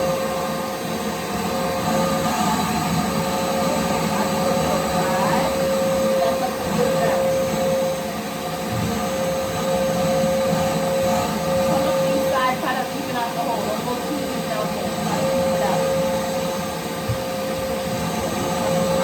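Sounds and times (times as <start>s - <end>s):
shop vacuum running: 0.0s - 19.0s.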